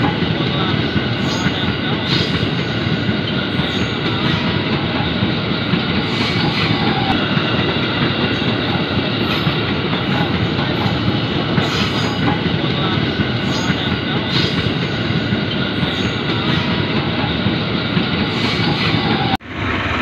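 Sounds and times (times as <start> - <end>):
train wheels on rails clattering: 0.0 - 20.0.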